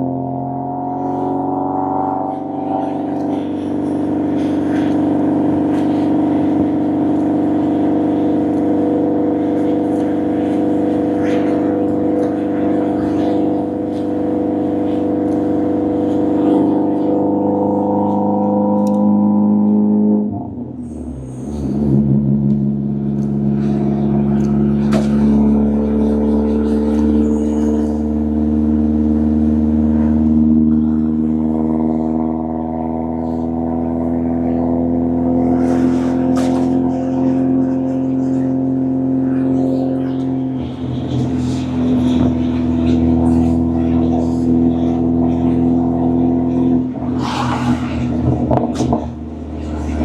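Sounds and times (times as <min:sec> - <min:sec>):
car engine droning: 0:00.0 - 0:50.0.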